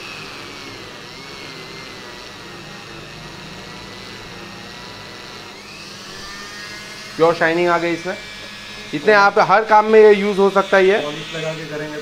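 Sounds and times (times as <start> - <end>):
rotary tool motor whine: 0.0 - 12.0.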